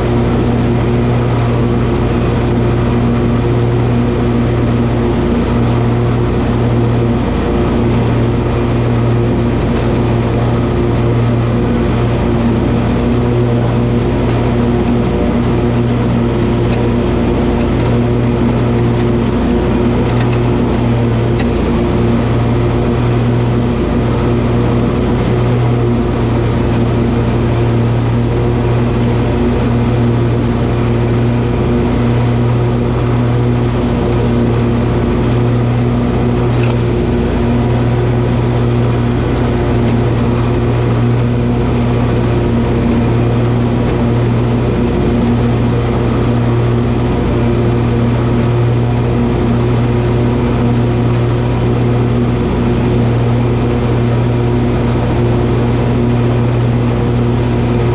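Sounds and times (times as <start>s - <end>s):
lawn mower engine running: 0.0s - 57.9s.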